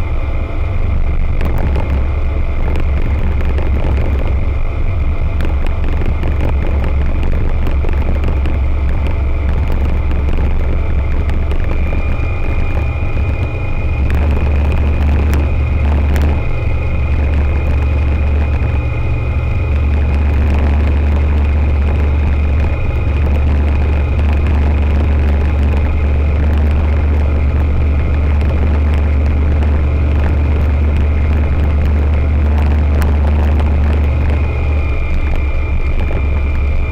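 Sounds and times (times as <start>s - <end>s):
aircraft engine and propeller droning: 0.0s - 36.9s
thin high whine: 0.0s - 36.9s.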